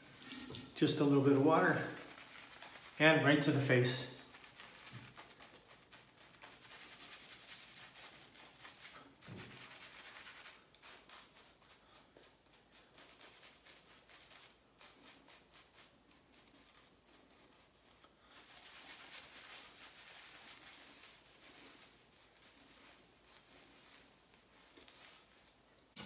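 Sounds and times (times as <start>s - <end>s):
shaving brush scrubbing: 0.0s - 26.0s.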